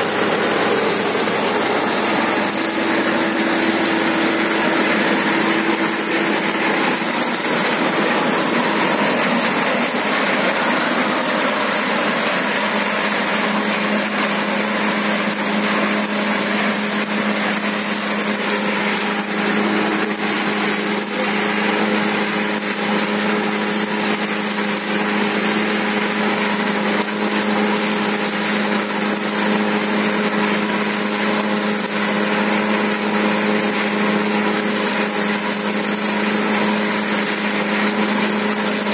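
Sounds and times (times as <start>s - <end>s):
seeder rotor whirring: 0.0s - 38.9s
tractor diesel engine running: 0.0s - 38.9s.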